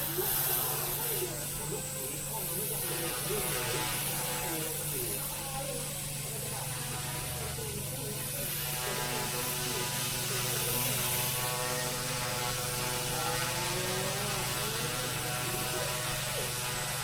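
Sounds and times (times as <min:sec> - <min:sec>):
rc helicopter motors whining: 0:00.0 - 0:17.0.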